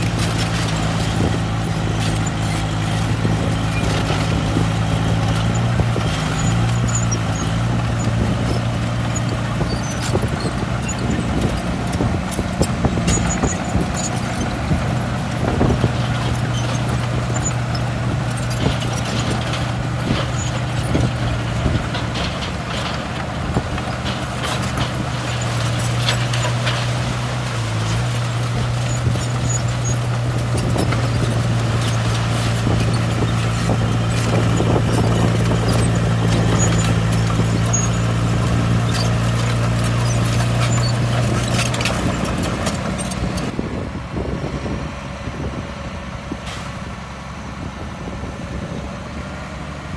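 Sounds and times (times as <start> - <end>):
metallic clanks and knocks: 0.0 - 43.5
heavy diesel machinery running: 0.0 - 49.9.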